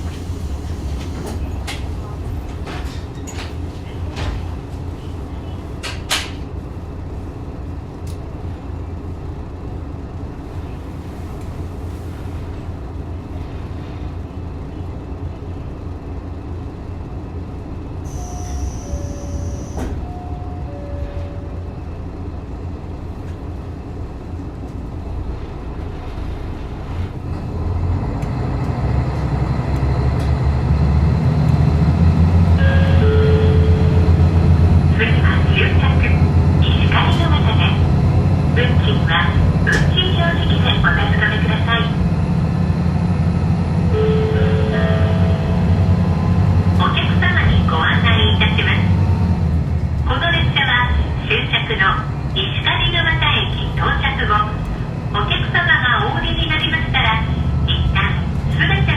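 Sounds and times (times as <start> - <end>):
railcar engine and rail rumble: 0.0 - 58.9.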